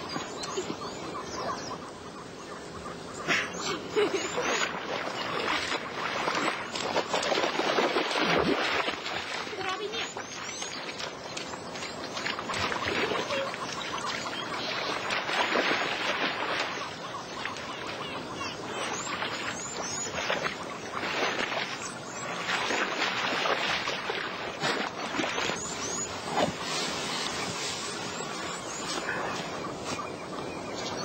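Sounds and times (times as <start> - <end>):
water splashing: 3.4 - 31.0.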